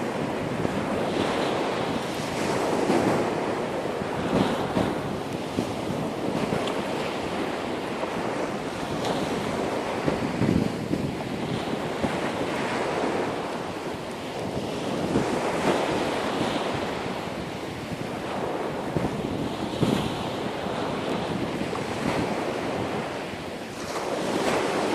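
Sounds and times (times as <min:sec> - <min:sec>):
ocean surf washing: 0:00.0 - 0:24.9
wind buffeting microphone: 0:00.0 - 0:24.9.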